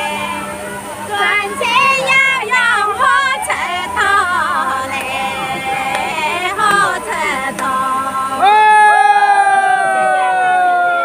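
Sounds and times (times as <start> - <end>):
women singing folk song: 0.0 - 9.2.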